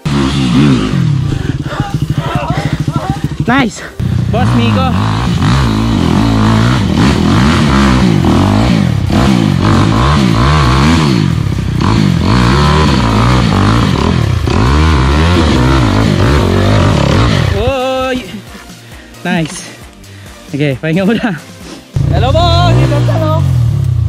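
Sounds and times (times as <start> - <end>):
small motorcycle engine revving: 0.0 - 17.6, 22.0 - 24.0.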